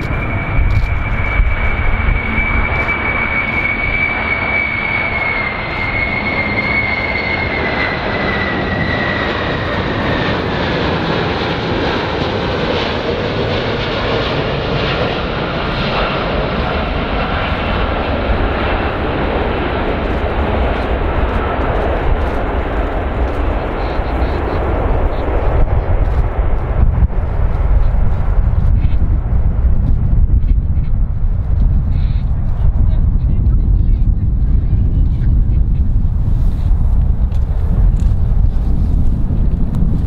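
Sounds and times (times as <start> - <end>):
jet rumble and engine whine: 0.0 - 40.0.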